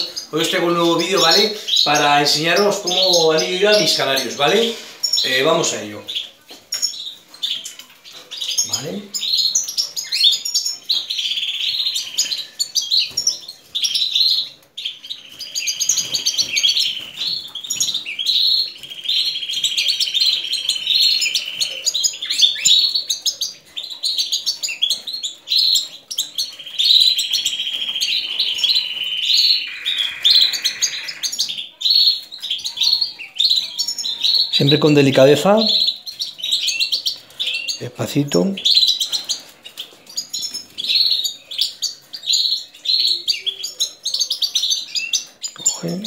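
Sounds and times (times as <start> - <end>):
canaries singing: 0.0 - 46.0.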